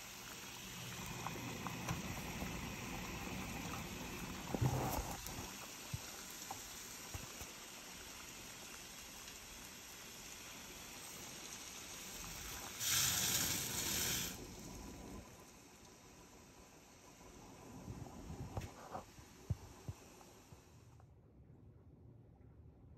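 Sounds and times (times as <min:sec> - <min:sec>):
rice poured hissing rush: 0:00.0 - 0:20.8
water boiling in saucepan: 0:00.0 - 0:20.9.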